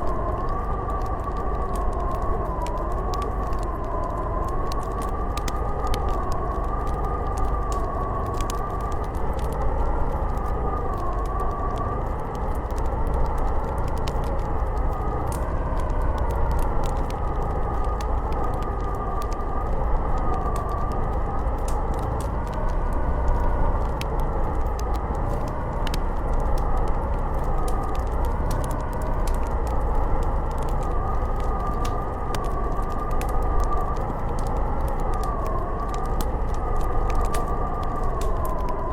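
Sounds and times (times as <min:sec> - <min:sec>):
howling wind: 0:00.0 - 0:38.9
wood fire crackling: 0:00.0 - 0:38.9.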